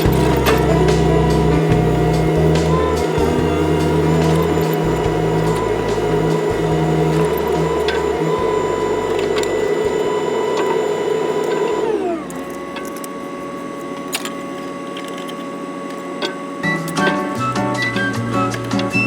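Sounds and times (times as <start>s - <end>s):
excavator engine and hydraulic whine: 0.0s - 19.0s.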